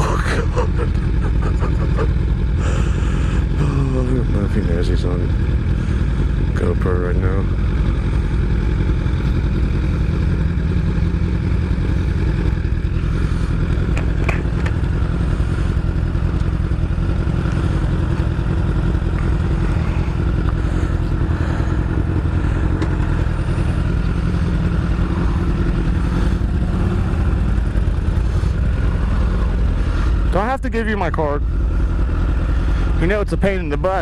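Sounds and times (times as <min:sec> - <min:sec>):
motorcycle engine low rumble: 0:00.0 - 0:34.0.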